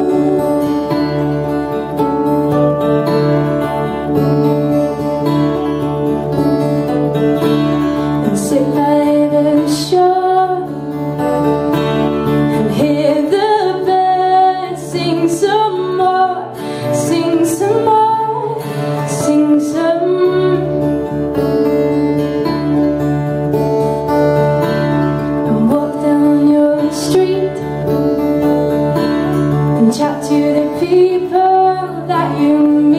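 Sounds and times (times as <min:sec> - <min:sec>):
acoustic guitars playing: 0:00.0 - 0:32.9
woman singing folk song: 0:00.0 - 0:32.9.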